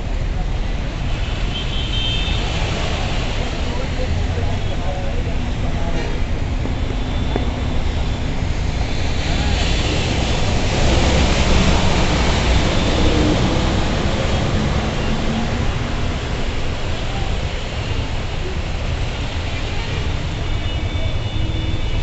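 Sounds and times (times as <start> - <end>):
water splashing: 1.0 - 22.0
engine and tyre rumble: 2.4 - 22.0.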